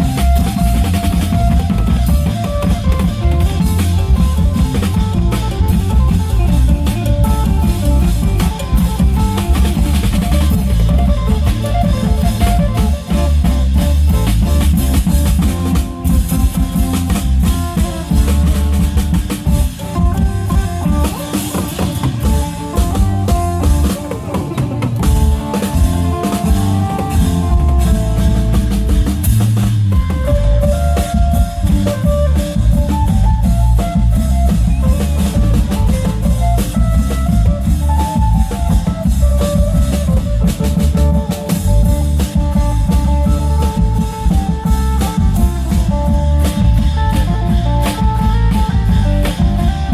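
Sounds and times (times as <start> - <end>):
heavy bass drum: 0.0 - 49.9
long drum ensemble: 0.0 - 49.9.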